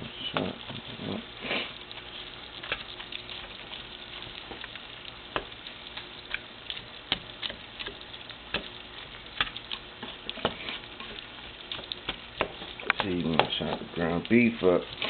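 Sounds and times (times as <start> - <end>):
frying sizzle: 0.0 - 15.0
spatula chopping meat in pan: 0.3 - 15.0.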